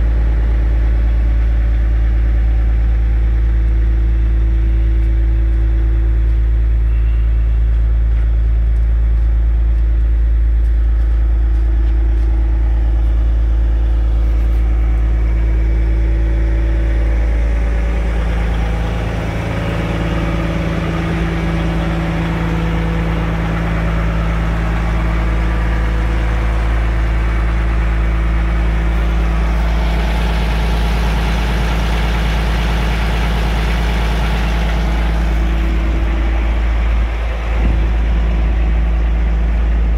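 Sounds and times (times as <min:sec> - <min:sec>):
diesel excavator engine idling: 0:00.0 - 0:39.9.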